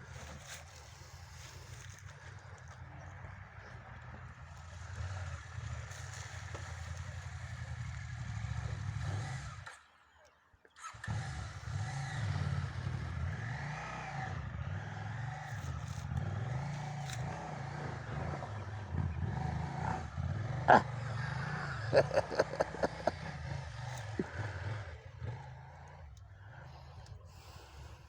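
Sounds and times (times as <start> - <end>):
motorcycle engine revving: 0.0 - 10.1, 10.7 - 28.0.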